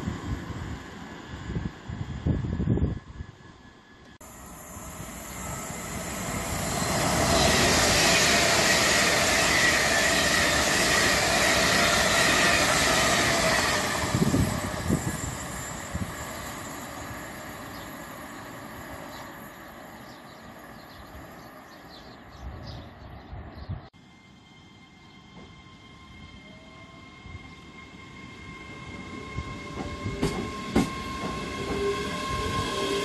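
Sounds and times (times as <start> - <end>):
high-speed train passing: 0.0 - 33.0.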